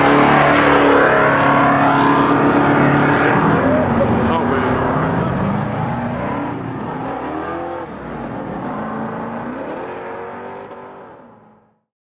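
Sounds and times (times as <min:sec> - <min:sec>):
car engine revving: 0:00.0 - 0:11.8
road and traffic noise: 0:00.0 - 0:11.8.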